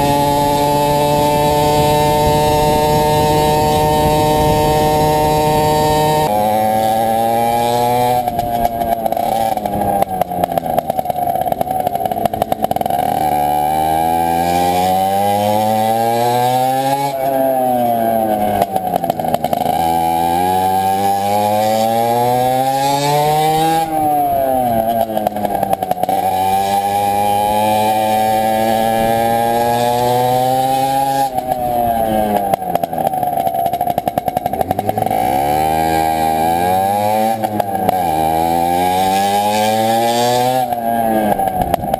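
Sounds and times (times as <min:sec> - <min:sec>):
two-stroke engine revving: 0:00.0 - 0:41.9.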